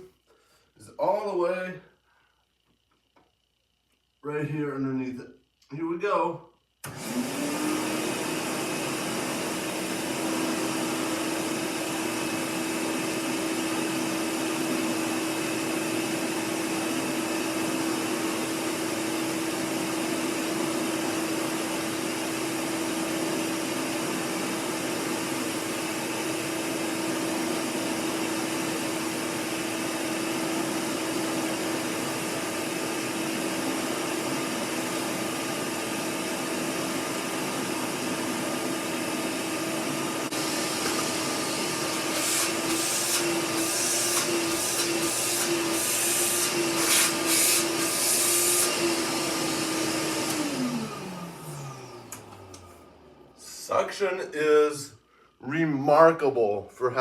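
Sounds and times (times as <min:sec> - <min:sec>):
vacuum cleaner running: 0:06.8 - 0:54.5.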